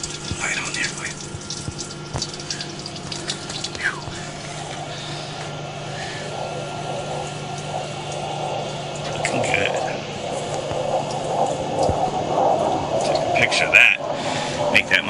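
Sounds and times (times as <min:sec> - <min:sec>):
rinse water splashing: 0:00.0 - 0:15.0
steady low hum: 0:00.0 - 0:15.0.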